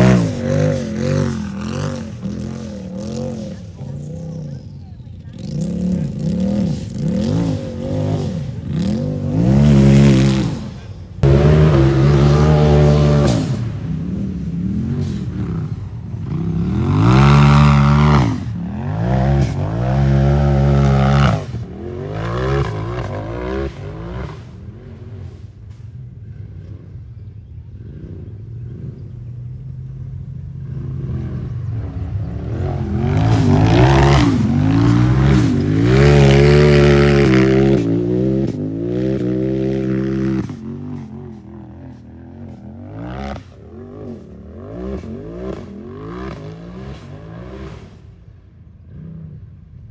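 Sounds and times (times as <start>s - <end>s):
engine revving hard: 0.0s - 25.4s, 30.6s - 48.2s.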